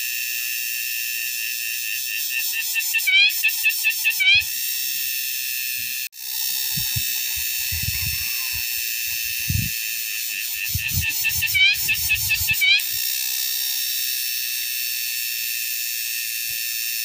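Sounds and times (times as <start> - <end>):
insects droning: 0.0 - 16.2.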